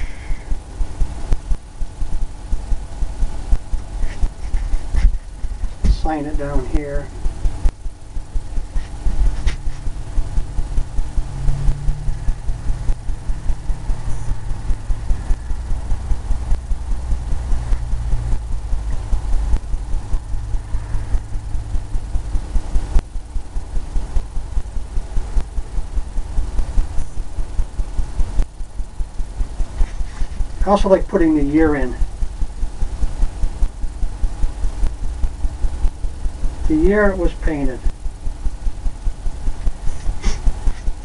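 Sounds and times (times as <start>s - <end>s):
low throbbing mechanical rumble: 0.0s - 41.0s.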